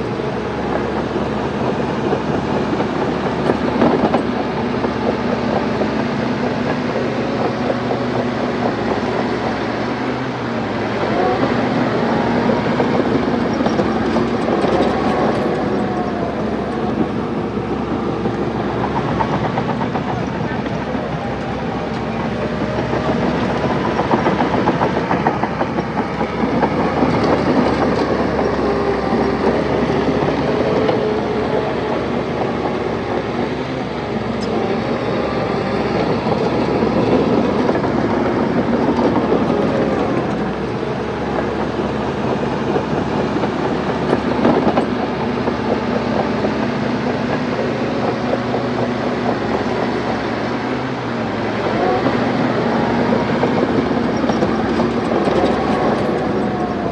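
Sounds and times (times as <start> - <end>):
bulldozer diesel engine under load: 0.0 - 56.9
steel tracks clanking: 0.0 - 56.9.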